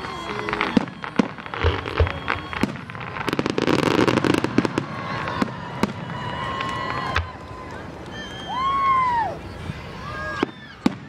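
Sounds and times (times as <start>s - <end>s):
fireworks bangs and crackling: 0.0s - 8.8s, 10.2s - 11.0s.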